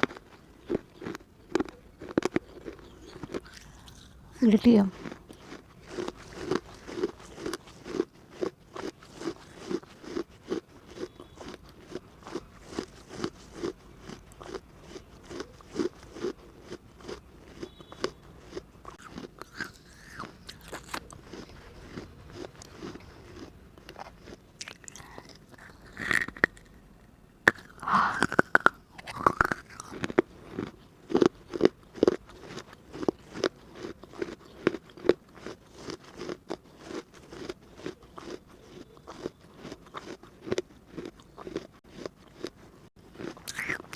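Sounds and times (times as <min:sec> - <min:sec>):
gritty crunching bites: 0:00.0 - 0:26.8, 0:27.5 - 0:43.9.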